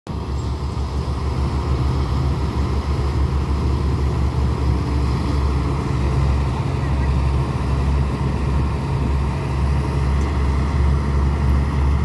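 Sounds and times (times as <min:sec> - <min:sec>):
harvester engines rumbling: 0:00.1 - 0:12.0.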